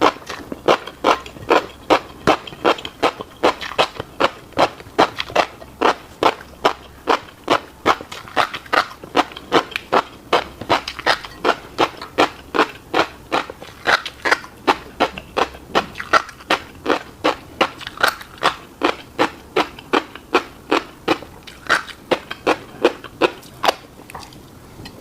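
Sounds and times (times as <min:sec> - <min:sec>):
wet chewing: 0:00.0 - 0:24.5.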